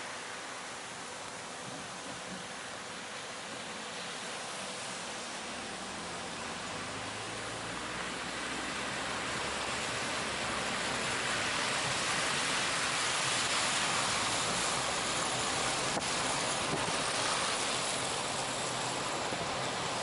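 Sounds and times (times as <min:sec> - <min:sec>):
fast-flowing floodwater rushing: 0:00.0 - 0:20.0.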